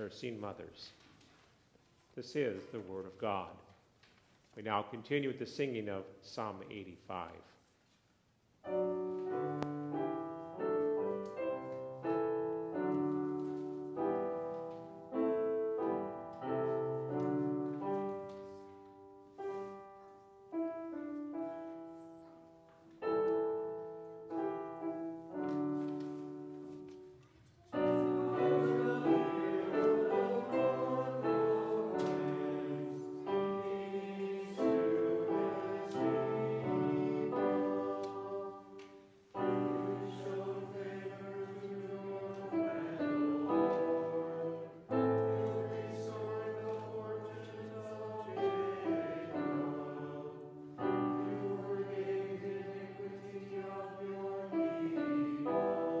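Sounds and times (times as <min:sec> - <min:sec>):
piano playing chords: 0:08.6 - 0:27.2, 0:27.8 - 0:56.0.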